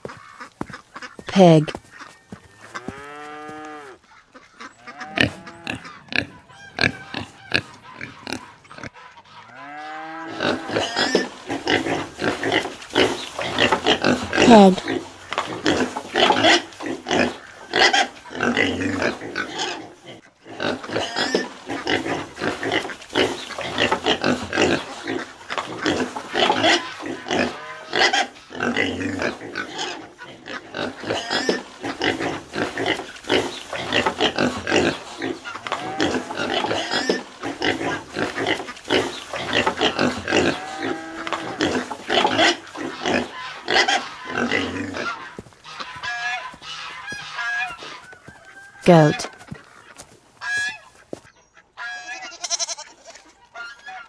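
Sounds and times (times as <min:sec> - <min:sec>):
pigs grunting: 0:02.8 - 0:48.1
pig squealing: 0:02.8 - 0:49.4, 0:50.4 - 0:51.0, 0:51.8 - 0:54.0.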